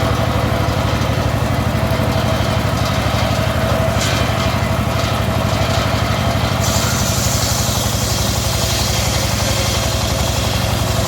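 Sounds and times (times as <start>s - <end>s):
circular saw engine pulsing: 0.0s - 11.0s.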